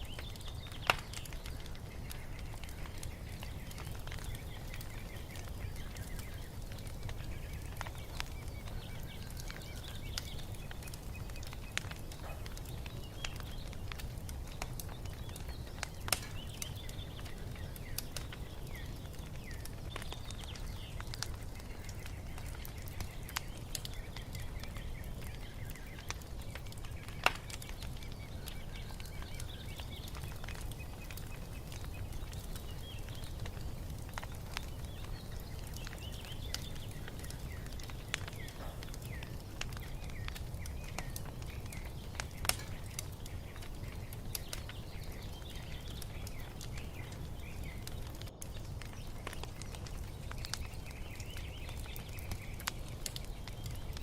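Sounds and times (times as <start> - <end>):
birds chirping: 0.0 - 54.0
wood fire crackling: 0.0 - 54.0.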